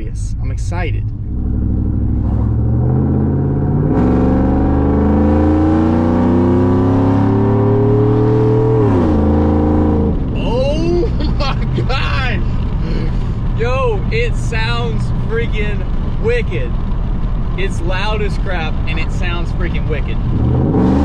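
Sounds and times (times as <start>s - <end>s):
truck engine accelerating hard: 0.6s - 21.0s.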